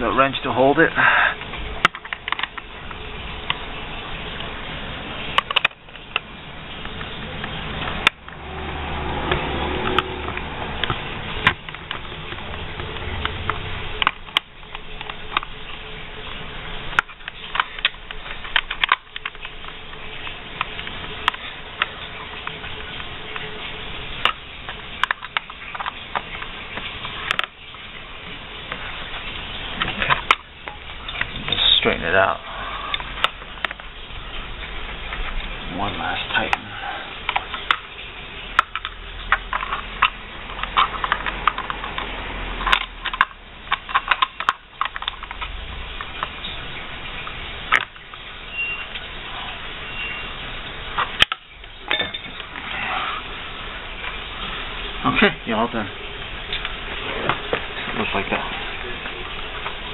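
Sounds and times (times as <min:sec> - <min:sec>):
steady background noise: 0:00.0 - 0:59.9.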